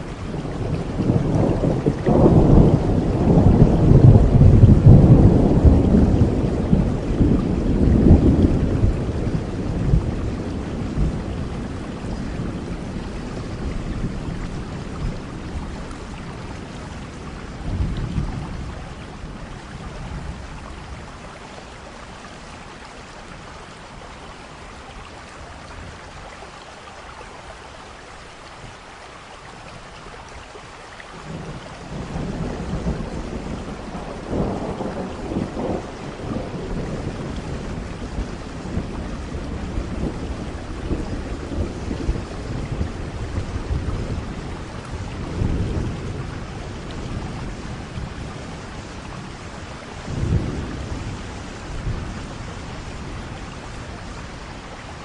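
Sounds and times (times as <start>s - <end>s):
rolling thunder: 0.0s - 21.2s, 31.2s - 55.0s
steady rain: 0.0s - 55.0s.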